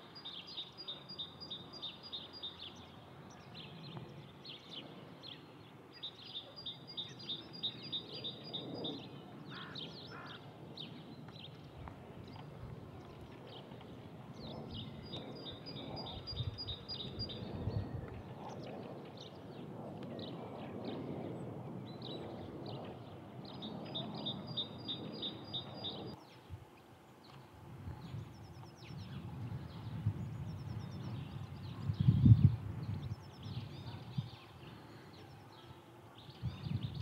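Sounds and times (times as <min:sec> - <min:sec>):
small birds chirping: 0:00.1 - 0:37.0.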